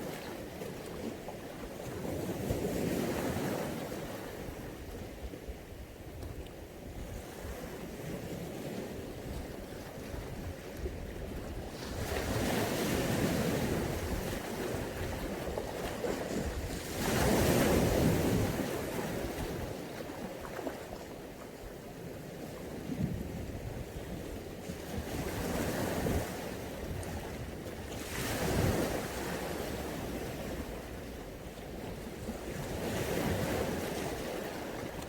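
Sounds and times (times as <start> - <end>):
waves washing onto shore: 0.0 - 35.0
wind buffeting microphone: 1.9 - 20.9, 22.6 - 35.0.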